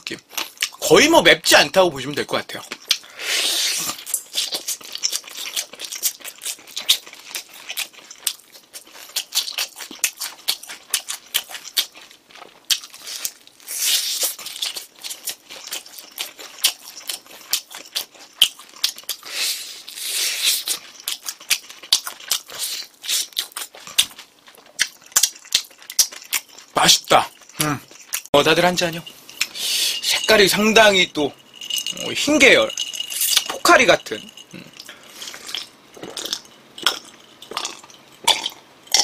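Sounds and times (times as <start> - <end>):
wet chewing clicks: 3.7 - 39.0.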